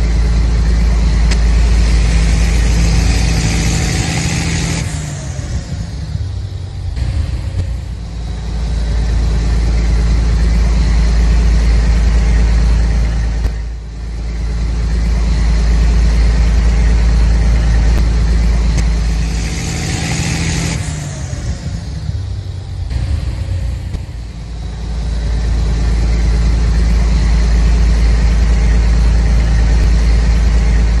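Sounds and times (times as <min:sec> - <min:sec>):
tractor engine humming: 0:00.0 - 0:31.0.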